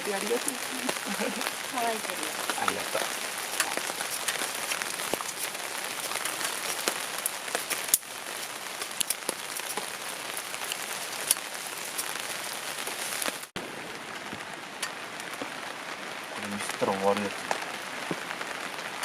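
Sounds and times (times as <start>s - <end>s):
steady rain with ticking drops: 0.0s - 19.0s.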